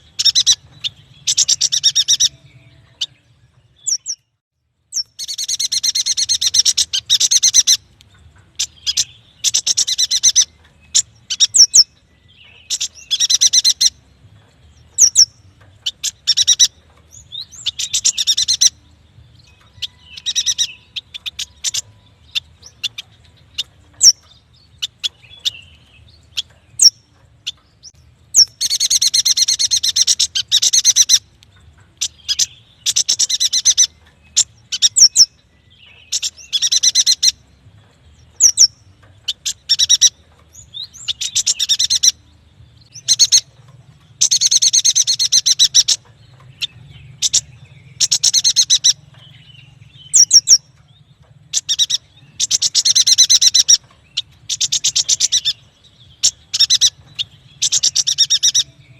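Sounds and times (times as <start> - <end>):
bird chattering trills: 0.0 - 3.2, 5.0 - 14.0, 14.9 - 18.8, 19.5 - 31.3, 31.9 - 37.4, 38.2 - 42.3, 42.9 - 58.9
bird chirps: 0.0 - 58.9.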